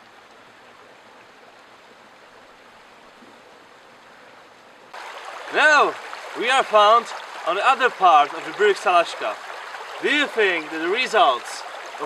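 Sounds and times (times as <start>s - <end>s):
faint rushing brook: 0.0s - 12.0s.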